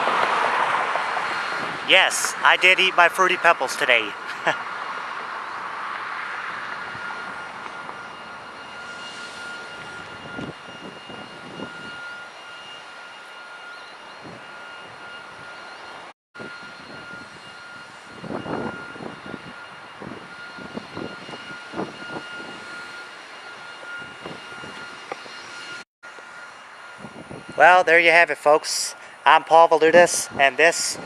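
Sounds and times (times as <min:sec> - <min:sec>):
mechanical drone with high whine: 0:01.1 - 0:31.0.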